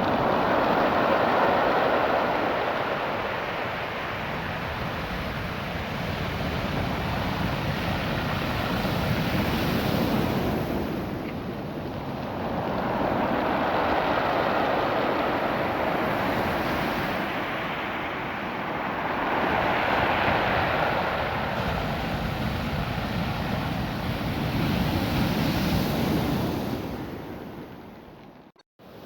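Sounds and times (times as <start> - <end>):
surf washing over pebbles: 0.0 - 27.1.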